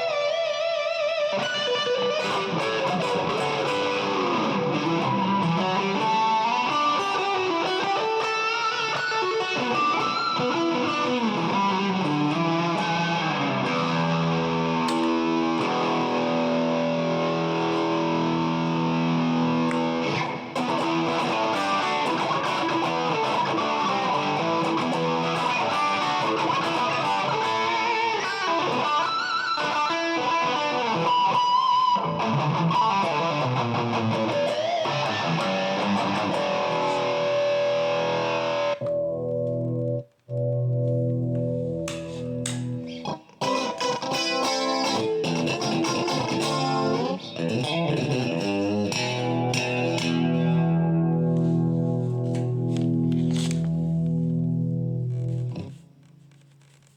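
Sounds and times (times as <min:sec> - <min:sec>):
electric guitar through effects: 0:00.0 - 0:56.9.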